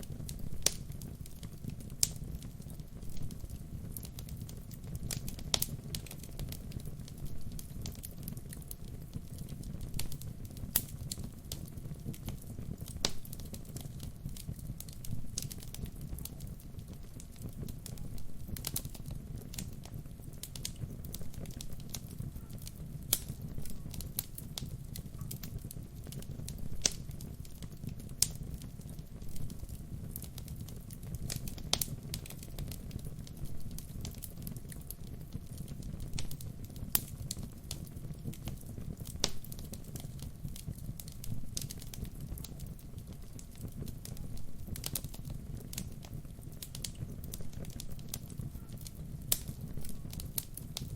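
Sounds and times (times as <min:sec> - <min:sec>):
burning logs crackling and popping: 0:00.0 - 0:50.9
low rush of flames: 0:00.0 - 0:50.9.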